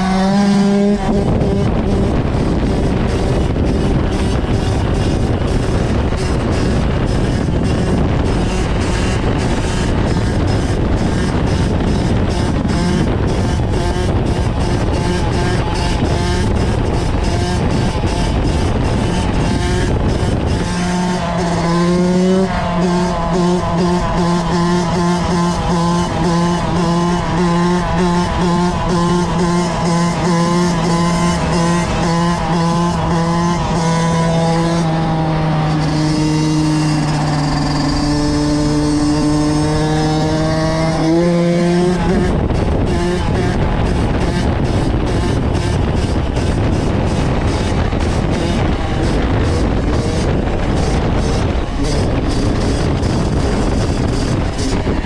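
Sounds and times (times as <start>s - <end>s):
two-stroke engine revving high: 0.0s - 55.0s.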